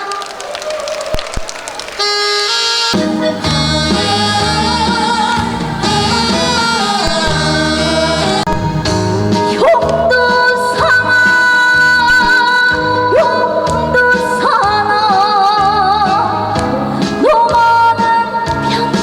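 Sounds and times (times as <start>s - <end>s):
backing track with lead melody: 2.0s - 19.0s.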